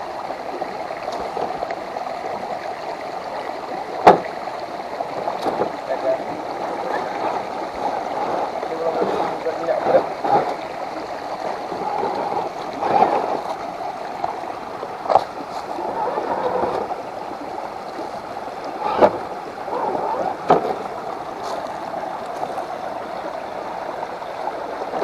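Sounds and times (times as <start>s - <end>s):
water sloshing and churning: 0.0s - 25.0s.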